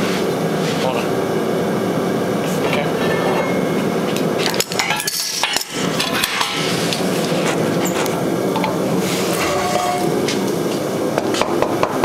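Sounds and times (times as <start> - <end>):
shop equipment hum: 0.0 - 12.0.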